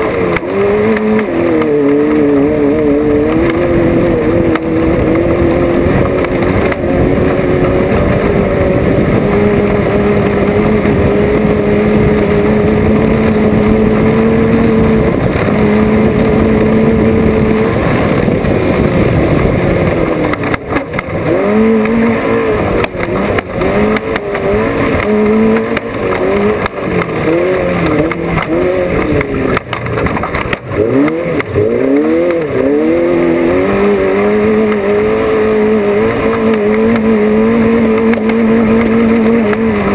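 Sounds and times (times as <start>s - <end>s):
race vehicle engine revving: 0.0s - 39.9s.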